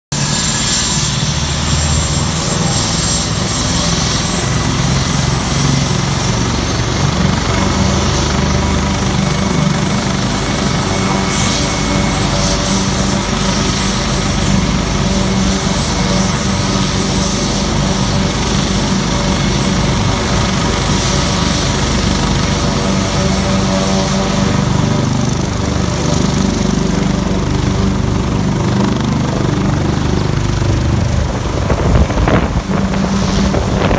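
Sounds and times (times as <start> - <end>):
helicopter rotor noise: 0.1 - 33.9
helicopter turbine whine: 0.1 - 33.9.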